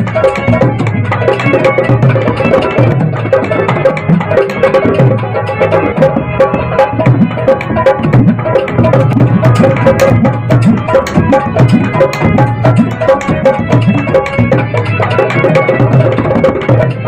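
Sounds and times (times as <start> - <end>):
dhol drumming: 0.0 - 17.0
harmonium melody: 0.0 - 17.0.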